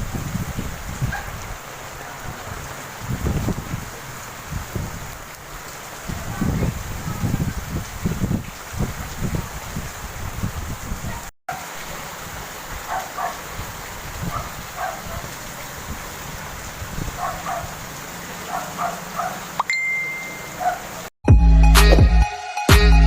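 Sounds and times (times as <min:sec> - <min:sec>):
rain falling: 0:00.0 - 0:21.1.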